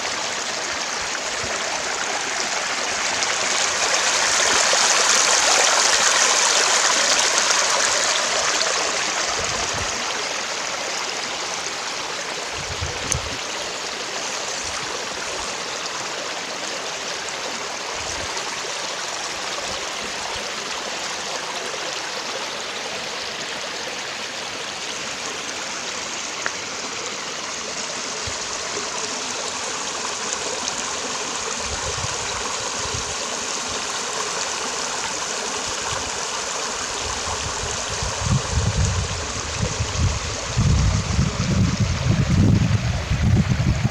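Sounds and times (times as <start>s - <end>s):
stream water rushing and gurgling: 0.0s - 43.9s.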